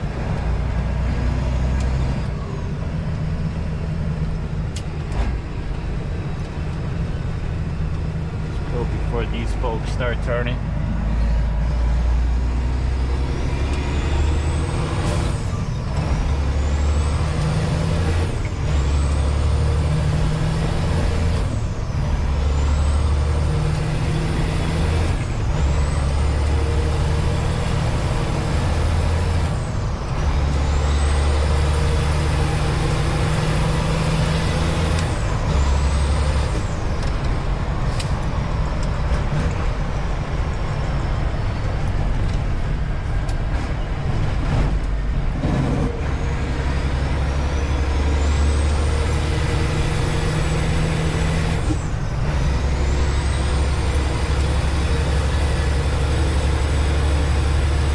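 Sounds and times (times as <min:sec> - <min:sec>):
truck diesel engine accelerating: 0:00.0 - 0:57.9.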